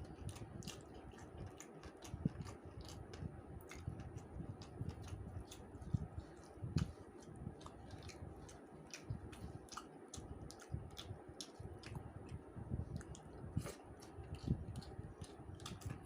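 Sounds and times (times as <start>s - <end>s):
person chewing food: 0.0s - 16.0s
wet mouth clicks and smacks: 0.2s - 16.0s.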